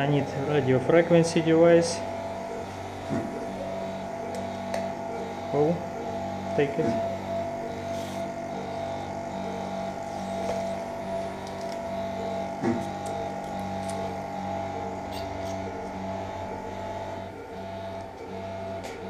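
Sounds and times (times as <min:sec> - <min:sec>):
medical equipment hum: 0:00.0 - 0:19.0.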